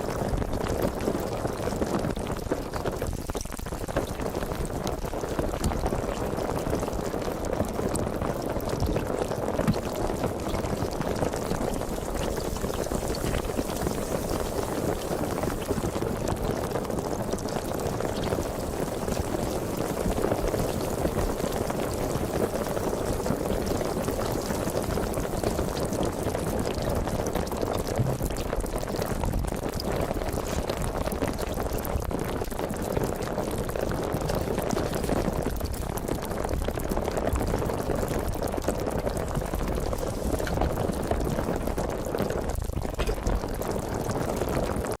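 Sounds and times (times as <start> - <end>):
sparkling water fizzing: 0.0 - 44.9.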